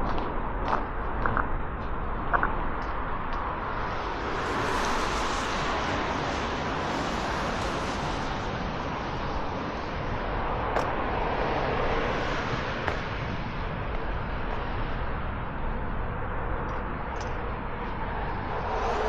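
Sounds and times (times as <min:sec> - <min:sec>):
road traffic: 0:00.2 - 0:19.0.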